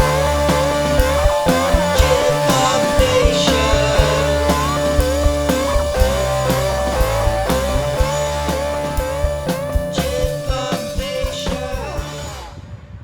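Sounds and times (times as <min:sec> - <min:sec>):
steady drum beat: 0:00.0 - 0:12.5
bending rock guitar line: 0:00.0 - 0:12.6.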